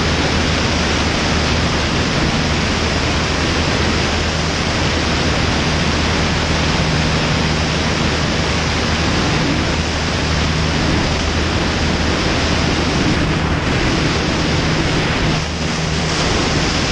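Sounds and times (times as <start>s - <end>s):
aircraft engine and propeller drone: 0.0s - 16.9s
rush of airflow: 0.0s - 16.9s.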